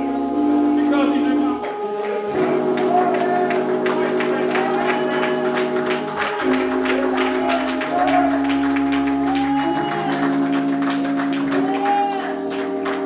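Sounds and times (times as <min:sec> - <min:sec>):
sustained organ-like chords: 0:00.0 - 0:13.0.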